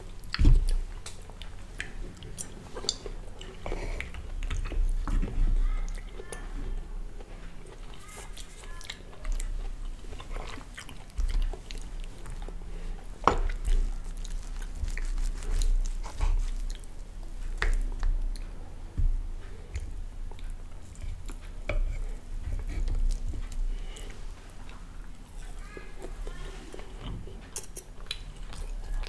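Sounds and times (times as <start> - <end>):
person chewing: 0.0 - 29.0.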